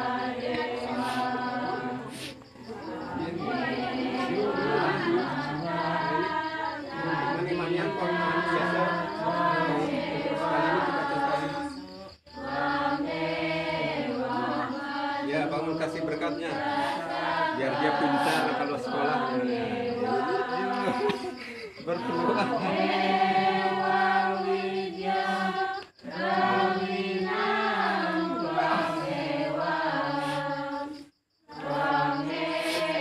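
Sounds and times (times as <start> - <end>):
voices chanting: 0.0 - 33.0.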